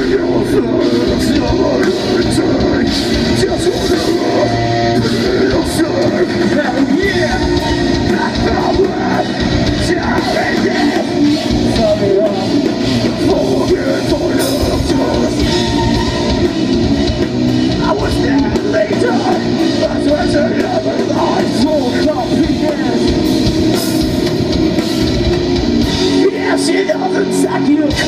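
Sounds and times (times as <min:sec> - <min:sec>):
singer yelling into microphone: 0:00.0 - 0:16.5, 0:17.8 - 0:23.2, 0:26.2 - 0:28.0
heavy rock band playing: 0:00.0 - 0:28.0.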